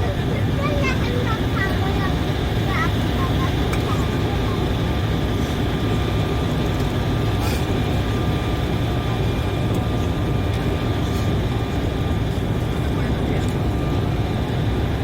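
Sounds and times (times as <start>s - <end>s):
turbofan engines droning: 0.0s - 15.0s.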